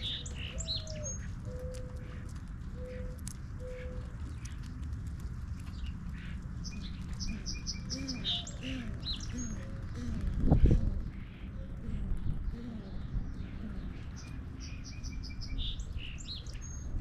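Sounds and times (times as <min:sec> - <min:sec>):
soft low bird calls: 0:00.0 - 0:04.9, 0:05.6 - 0:17.0
small birds chirping: 0:00.0 - 0:17.0.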